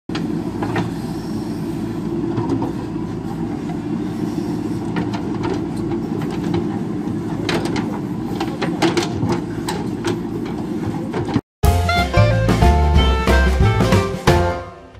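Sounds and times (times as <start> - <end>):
diesel engine running under load: 0.1 - 13.9.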